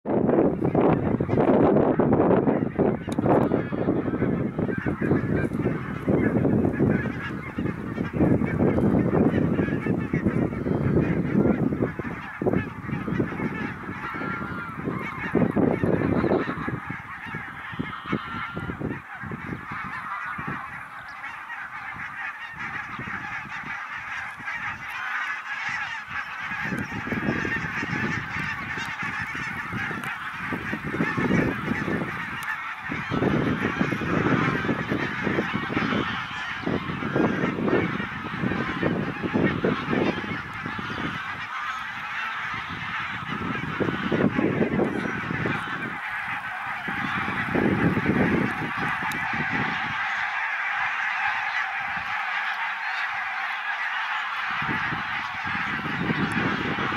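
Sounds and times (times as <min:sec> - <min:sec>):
geese honking: 0:00.1 - 0:56.9.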